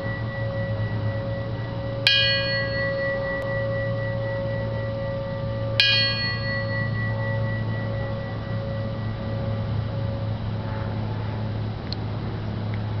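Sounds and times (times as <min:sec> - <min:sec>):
hand bell ringing: 0:00.0 - 0:10.7.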